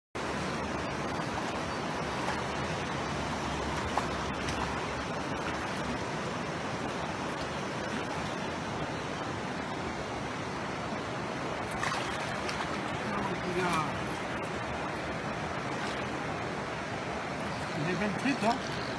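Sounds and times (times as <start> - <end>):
stream rushing over rocks: 0.2 - 18.9.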